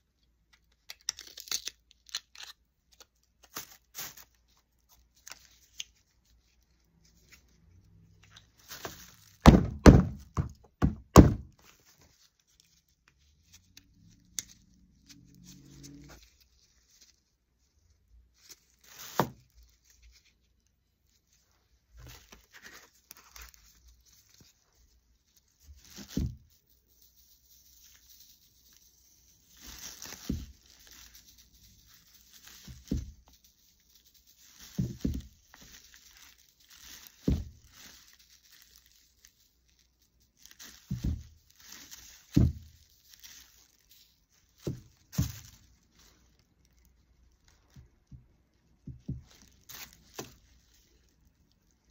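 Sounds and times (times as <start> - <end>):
plastic sheet crinkling and rustling: 1.0 - 51.9.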